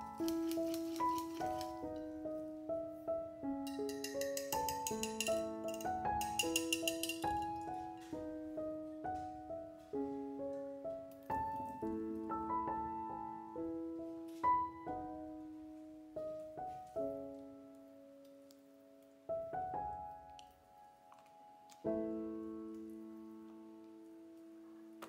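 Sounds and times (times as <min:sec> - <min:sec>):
slow solo piano melody: 0:00.0 - 0:25.0.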